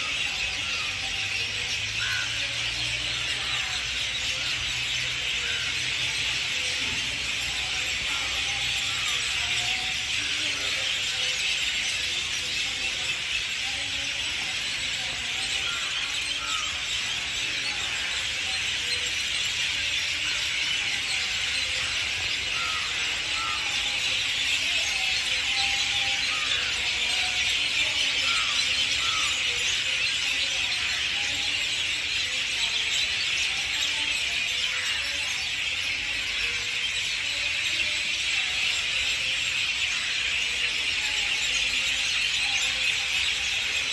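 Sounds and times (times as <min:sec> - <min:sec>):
high-pitched chirping chorus: 0:00.0 - 0:43.9.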